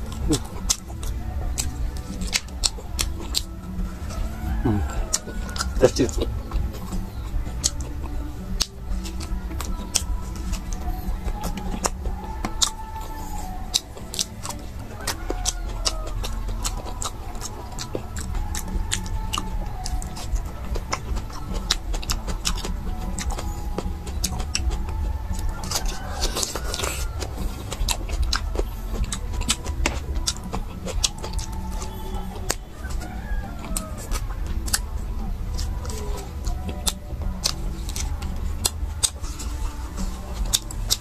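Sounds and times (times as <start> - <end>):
person gnawing meat off bones: 0.0 - 41.0.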